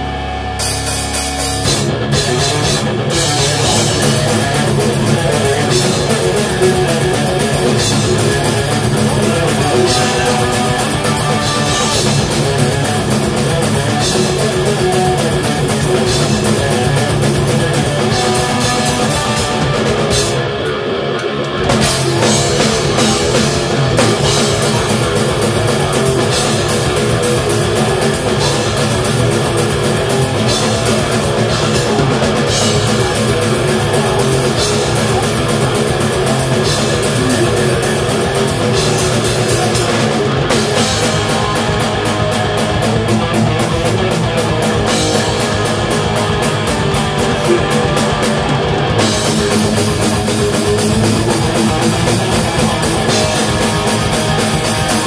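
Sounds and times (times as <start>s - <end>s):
double-bass kick drums: 0.0s - 20.5s, 21.6s - 55.0s
distorted electric guitars: 0.0s - 55.0s.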